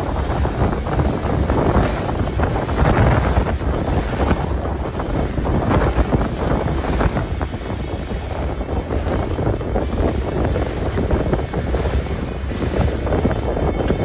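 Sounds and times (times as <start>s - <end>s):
boat rumble on open sea: 0.0s - 14.0s
wind buffeting microphone: 0.0s - 14.0s.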